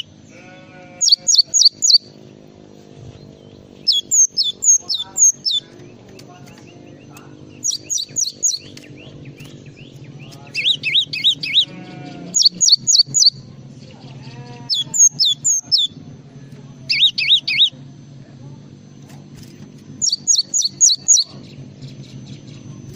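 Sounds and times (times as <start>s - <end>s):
songbird chirping: 0.0s - 17.8s, 20.0s - 22.9s
steady low hum: 0.0s - 22.9s.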